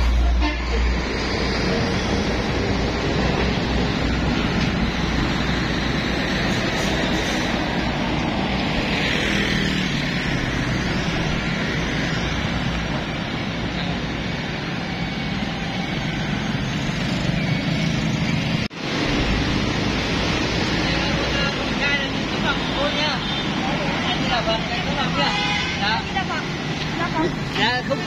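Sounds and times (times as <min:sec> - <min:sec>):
passing traffic: 0:00.0 - 0:28.0.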